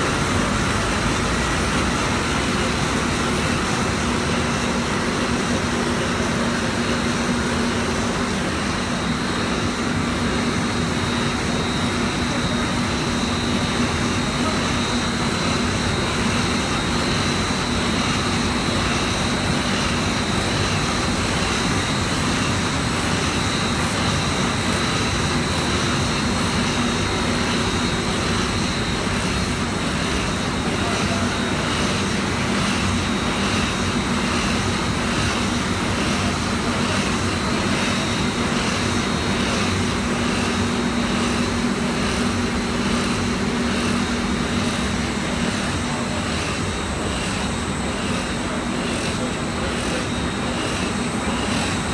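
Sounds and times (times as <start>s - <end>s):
printing machine drone: 0.0s - 51.9s.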